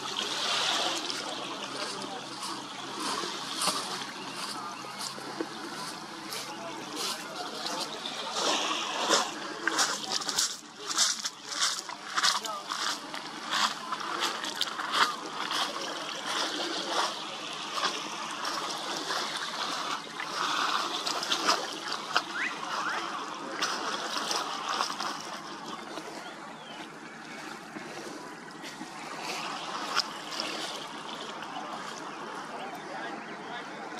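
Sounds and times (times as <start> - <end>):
water lapping and splashing: 0.0 - 33.9.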